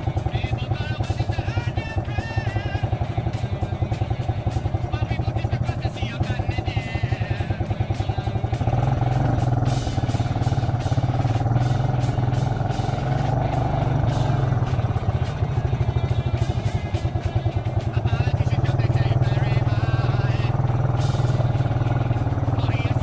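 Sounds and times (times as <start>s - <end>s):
quad bike engine running: 0.0s - 23.0s.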